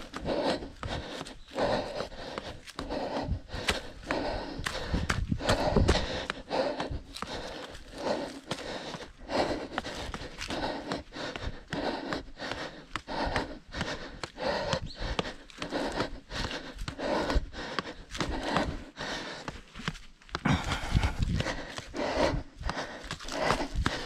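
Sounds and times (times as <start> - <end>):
footfalls on a trail: 0.0 - 24.0
person breathing hard: 0.0 - 24.0.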